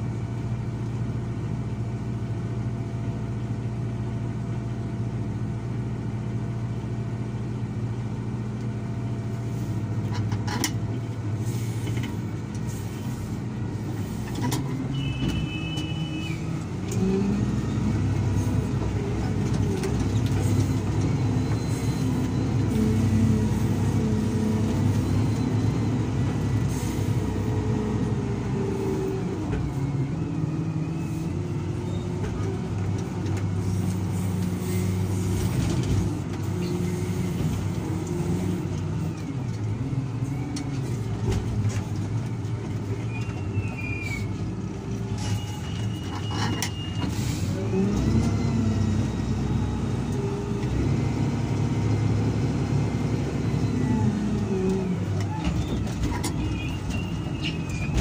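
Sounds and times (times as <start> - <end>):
wheel loader engine revving: 10.9 - 58.0.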